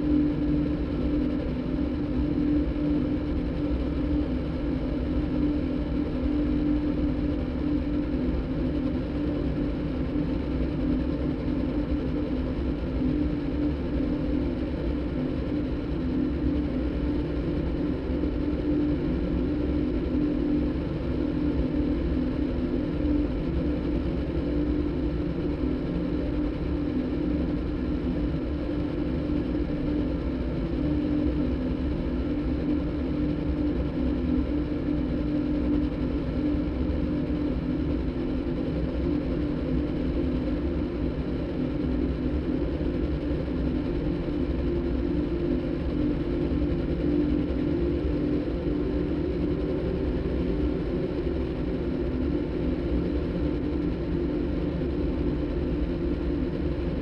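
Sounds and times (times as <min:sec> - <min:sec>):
engine-like drone with low tone: 0:00.0 - 0:57.0.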